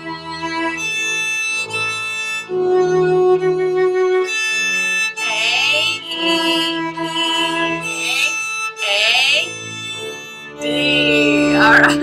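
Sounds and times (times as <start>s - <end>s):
bowed viola notes: 0.0s - 12.0s.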